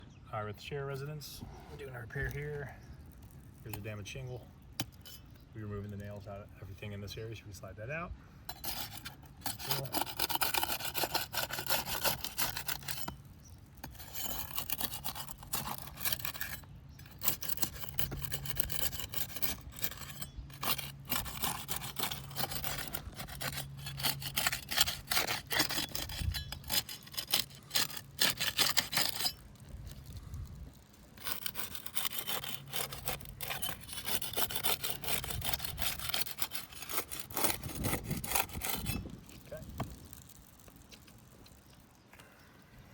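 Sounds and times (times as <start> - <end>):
hand tool rasping under shingles: 1.0 - 7.1, 8.5 - 41.0.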